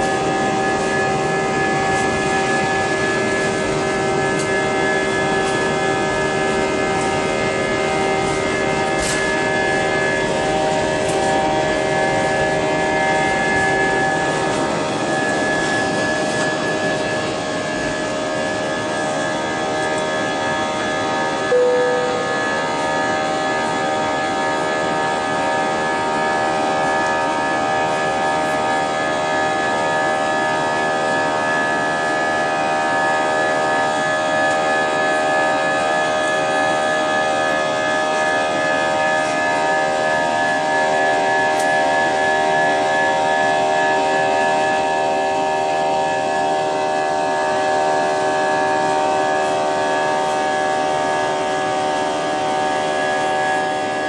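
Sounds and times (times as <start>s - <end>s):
jet engines humming in cabin: 0.0s - 54.0s.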